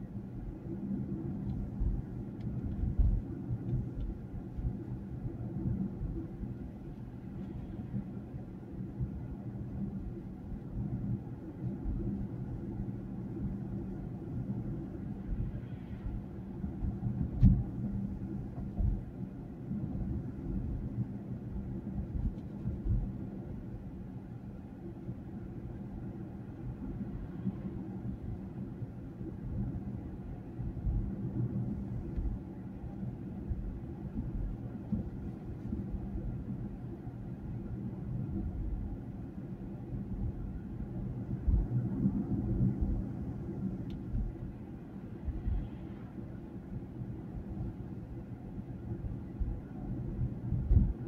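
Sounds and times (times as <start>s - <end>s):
car cabin road rumble: 0.0s - 51.0s
low hum: 0.0s - 51.0s.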